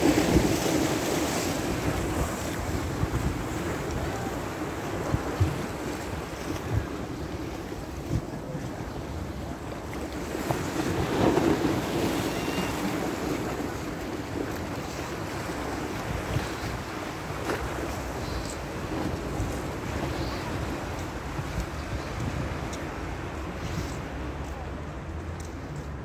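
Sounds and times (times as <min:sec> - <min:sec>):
surf washing against rocks: 0:00.0 - 0:24.3
wind buffeting microphone: 0:00.0 - 0:24.4.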